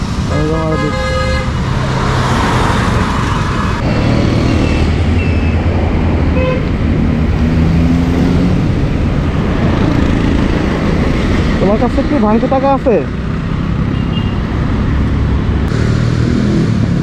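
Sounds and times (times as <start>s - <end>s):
cars and motorcycles passing: 0.0s - 17.0s
motorcycle riding rush: 0.0s - 17.0s.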